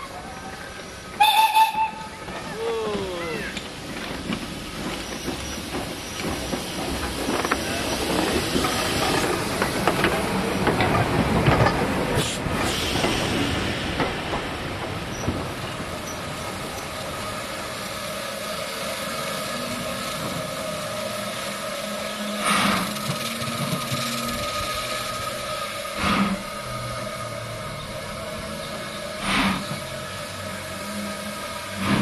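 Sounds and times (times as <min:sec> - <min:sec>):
steam locomotive hissing: 0:00.0 - 0:32.0
loud steam blasts: 0:05.6 - 0:32.0.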